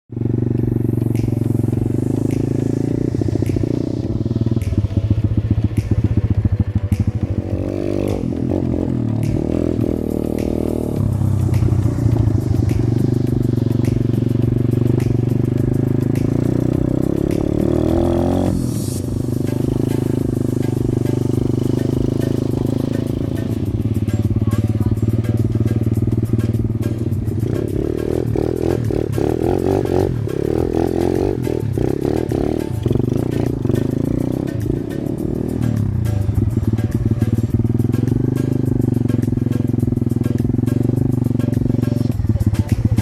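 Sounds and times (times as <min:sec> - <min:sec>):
pit bike engine revving: 0:00.1 - 0:43.0.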